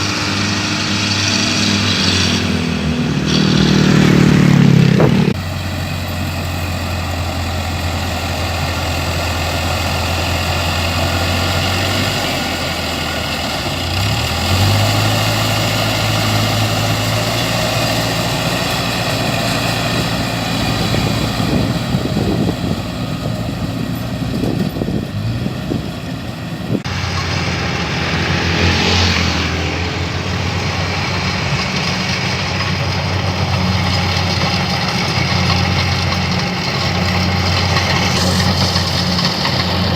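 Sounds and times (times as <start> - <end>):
combine harvester engine hum: 0.0 - 39.9
machinery noise: 0.0 - 39.9.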